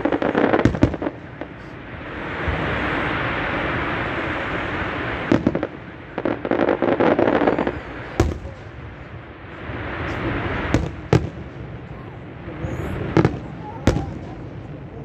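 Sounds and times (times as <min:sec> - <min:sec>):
sharp firework bangs: 0:00.0 - 0:11.9, 0:13.1 - 0:14.7
firework crackling: 0:00.0 - 0:15.0.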